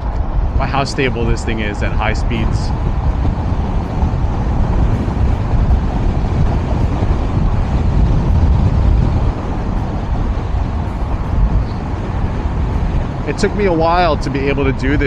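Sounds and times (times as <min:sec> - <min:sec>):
wind buffeting the microphone: 0:00.0 - 0:15.0.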